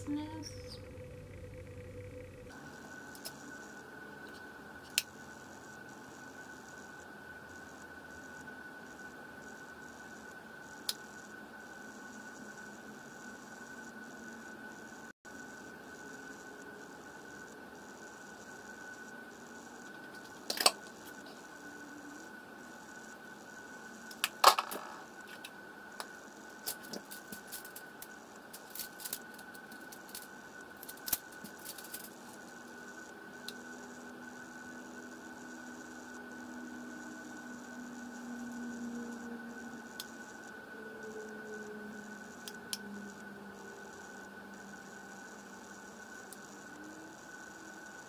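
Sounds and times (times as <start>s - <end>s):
faint high whine: 0.0s - 48.0s.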